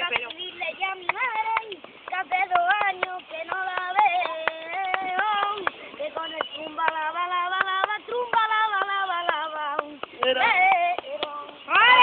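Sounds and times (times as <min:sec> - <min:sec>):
child singing flamenco-style: 0:00.0 - 0:12.0
hand claps: 0:00.0 - 0:12.0.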